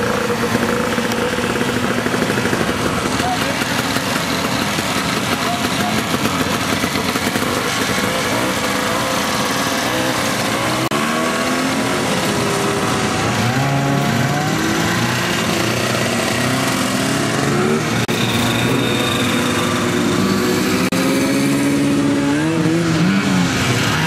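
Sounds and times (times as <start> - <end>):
snowmobile engines passing: 0.0 - 24.0.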